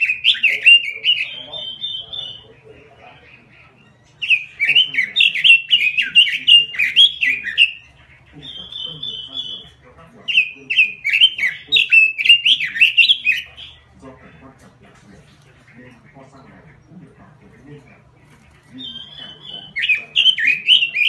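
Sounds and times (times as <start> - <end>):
bird singing warbling notes: 0.0 - 14.6, 15.5 - 21.0.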